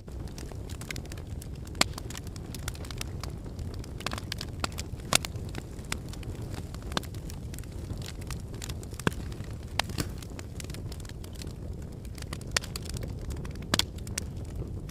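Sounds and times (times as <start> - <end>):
wood fire crackling and popping: 0.0 - 14.9.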